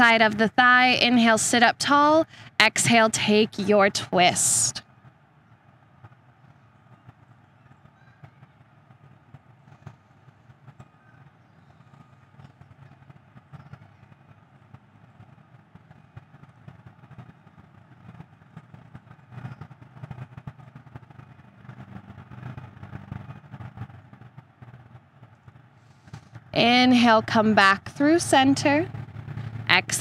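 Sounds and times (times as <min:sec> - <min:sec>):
distant traffic rumble: 0:00.0 - 0:04.8, 0:08.6 - 0:30.0.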